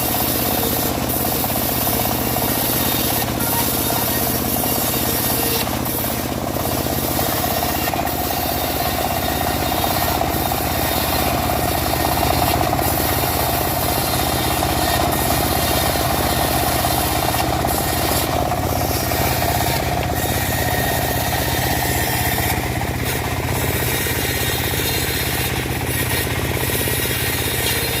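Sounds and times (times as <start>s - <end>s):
engine chugging: 0.0s - 28.0s.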